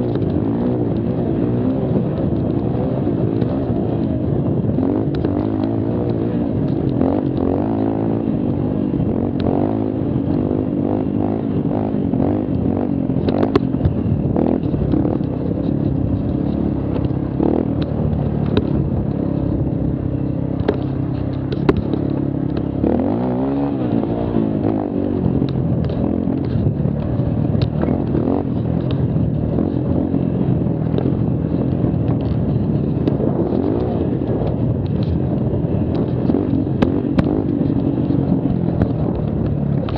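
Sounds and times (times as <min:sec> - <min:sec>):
small quad engine revving: 0:00.0 - 0:39.9.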